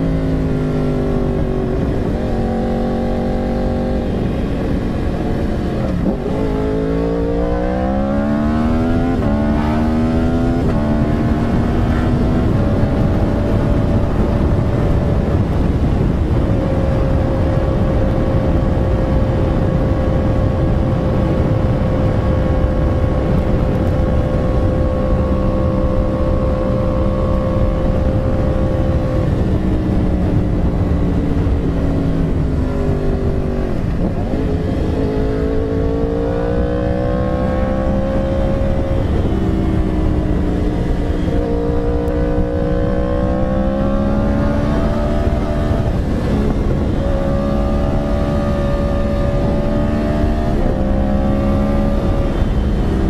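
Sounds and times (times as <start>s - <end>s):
motorcycle engine revving and shifting: 0.0s - 53.0s
wind rushing: 0.0s - 53.0s.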